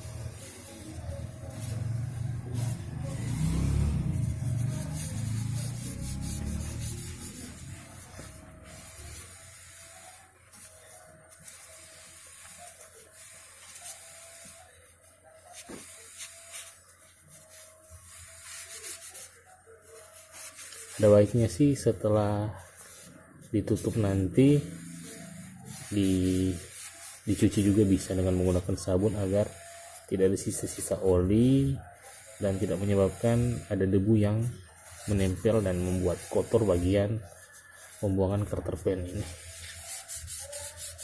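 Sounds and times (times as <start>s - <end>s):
cloth rag wiping metal: 0.0s - 41.0s.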